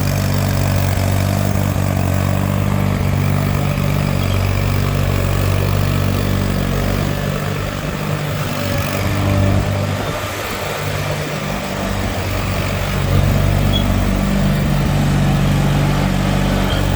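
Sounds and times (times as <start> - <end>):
lawn tractor engine running: 0.0 - 16.9.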